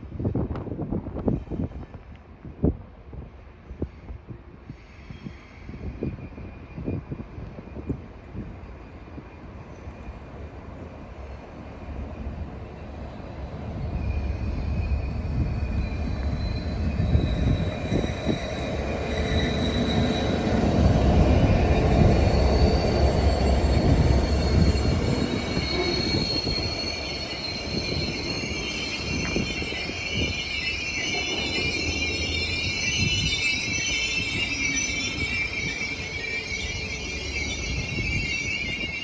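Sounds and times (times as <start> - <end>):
train rumbling past: 0.0 - 39.0
train wheel squeal: 3.7 - 10.5, 11.1 - 39.0.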